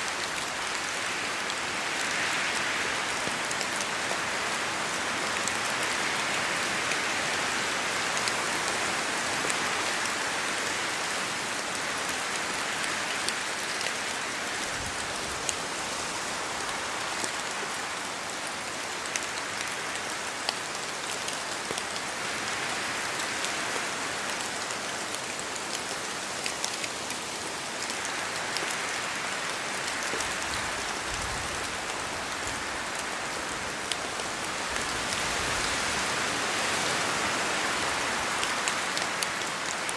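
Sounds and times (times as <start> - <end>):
rain dripping on leaves: 0.0 - 39.9
steady rain falling: 0.0 - 39.9
wind in branches: 0.0 - 39.9.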